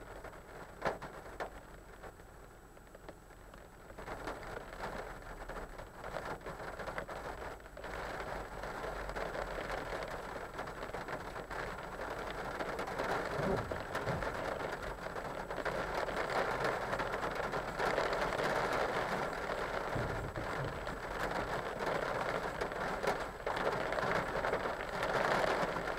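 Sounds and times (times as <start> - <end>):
heavy rain on car roof: 0.0 - 25.9.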